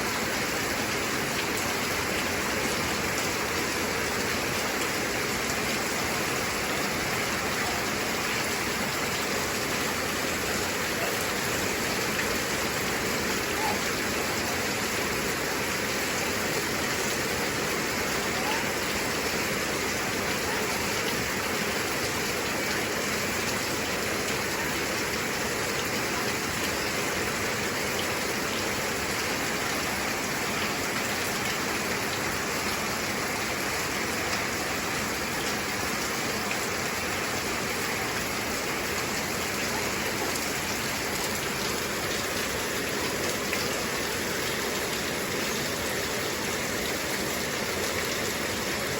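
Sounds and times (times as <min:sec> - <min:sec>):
heavy rain: 0:00.0 - 0:48.9.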